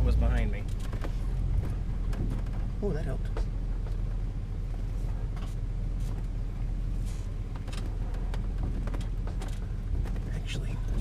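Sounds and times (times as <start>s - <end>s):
light clicks and rattles: 0.0s - 6.4s, 7.0s - 11.0s
motorhome engine running: 0.0s - 11.0s.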